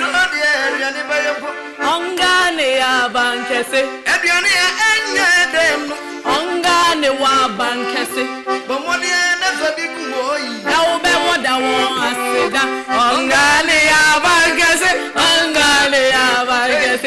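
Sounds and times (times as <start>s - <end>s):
piano accordion playing: 0.0s - 17.0s.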